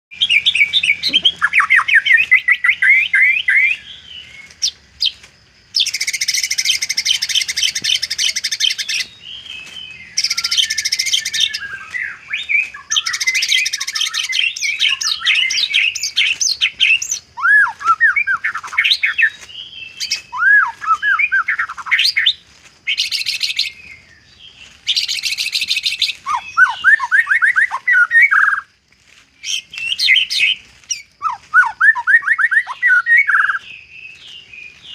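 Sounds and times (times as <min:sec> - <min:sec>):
bird singing varied song: 0:00.1 - 0:34.9.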